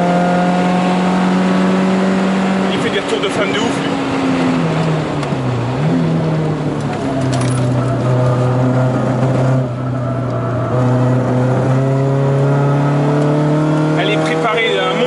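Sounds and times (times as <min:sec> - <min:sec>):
car engine pulling under load: 0:00.6 - 0:15.0.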